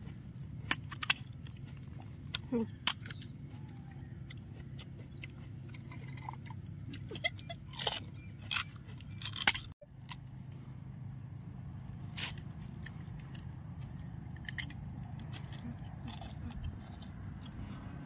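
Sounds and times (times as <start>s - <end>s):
crunching and chewing: 0.0s - 18.0s
low background hum: 0.0s - 18.0s.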